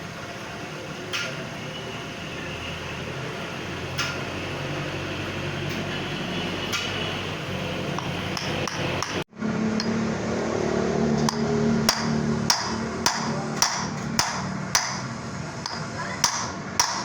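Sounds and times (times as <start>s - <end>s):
workshop machine hum: 0.0s - 17.0s.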